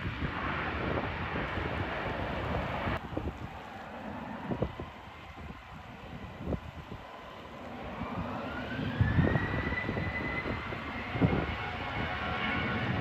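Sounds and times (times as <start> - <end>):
jet engines spooling up: 0.0 - 13.0
wind buffeting microphone: 0.0 - 13.0.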